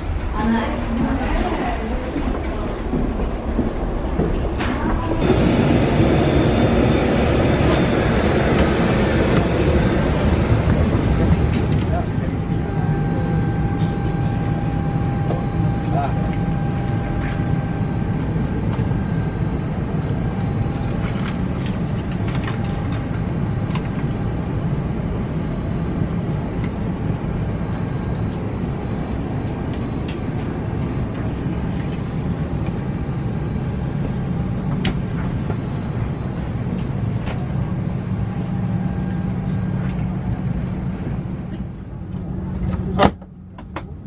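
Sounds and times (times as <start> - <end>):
faint steady whine: 0.0 - 44.0
vehicle engine rumble: 0.0 - 44.0.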